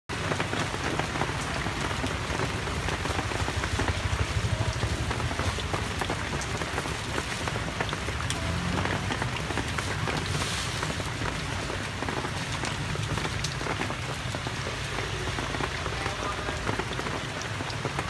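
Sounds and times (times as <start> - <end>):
food deep-frying in hot oil: 0.2 - 18.0.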